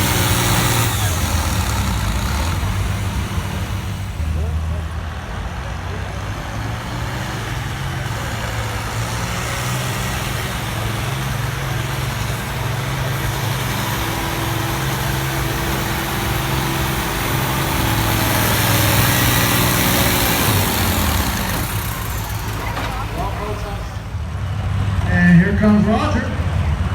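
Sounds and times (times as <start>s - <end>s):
tractor engine running hard: 0.0s - 26.9s.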